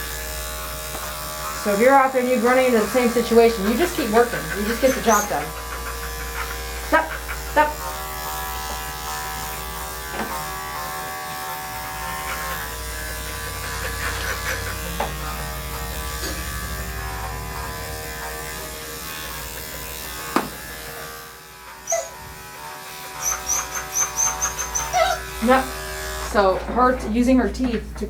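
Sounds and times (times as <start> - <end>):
electric clippers buzzing: 0.0 - 28.0.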